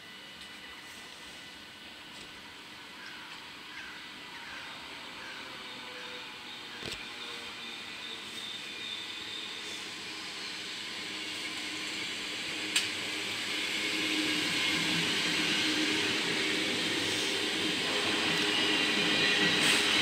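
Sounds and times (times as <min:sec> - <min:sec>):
low train hum: 0:00.0 - 0:20.0
train wheels rushing on rail: 0:00.0 - 0:20.0.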